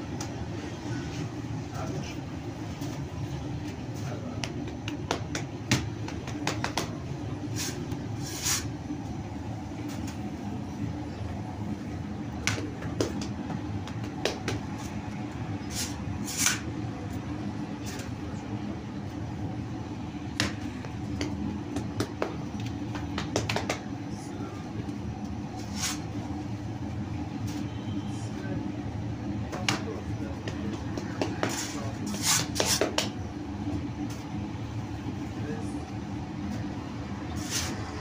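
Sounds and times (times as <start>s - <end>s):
machinery humming: 0.0s - 32.6s.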